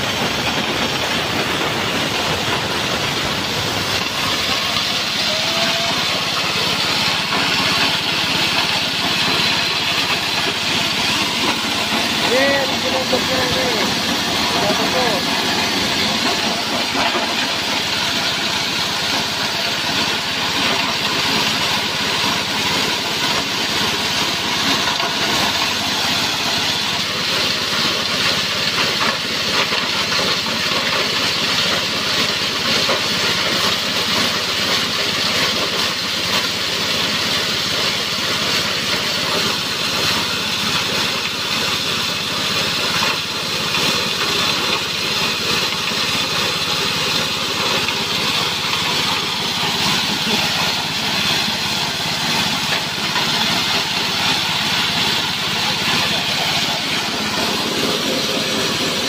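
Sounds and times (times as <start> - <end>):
small petrol engine running: 0.0 - 59.0
corn cobs being crushed: 3.9 - 59.0.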